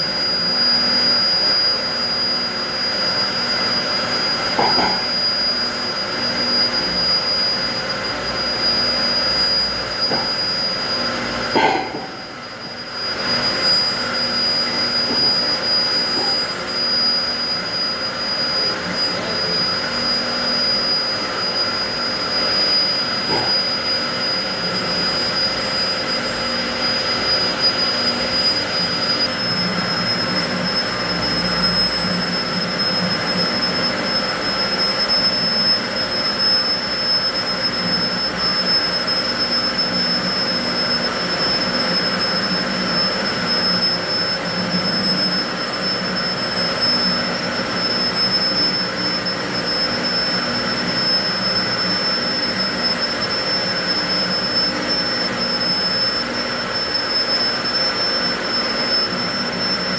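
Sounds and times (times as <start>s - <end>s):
machine running with high whine: 0.0s - 59.9s.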